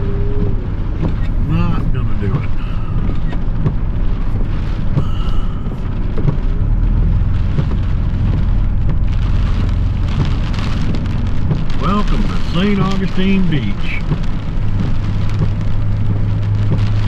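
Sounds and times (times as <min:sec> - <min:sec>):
rain hissing on vehicle: 0:00.0 - 0:17.0
truck engine rumble: 0:00.0 - 0:17.0.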